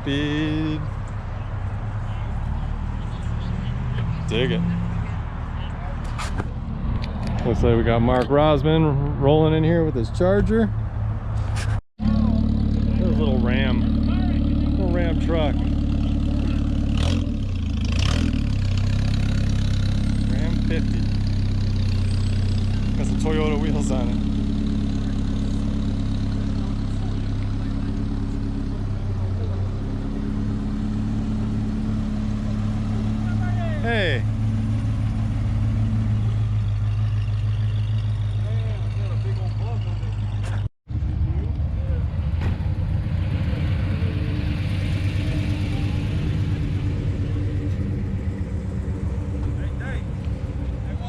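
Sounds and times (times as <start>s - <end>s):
vehicle engine running: 0.0s - 10.7s, 11.4s - 51.0s.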